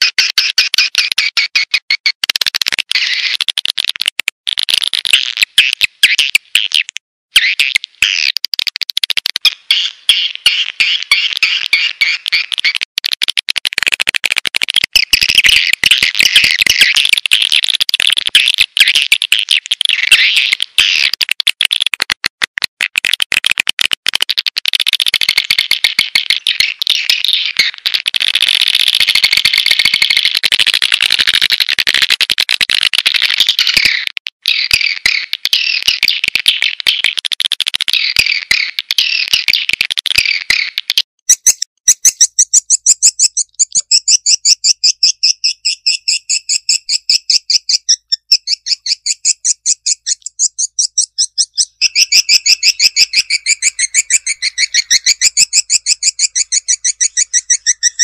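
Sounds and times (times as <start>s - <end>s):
swiftlet chirps and clicks: 0.0s - 58.0s.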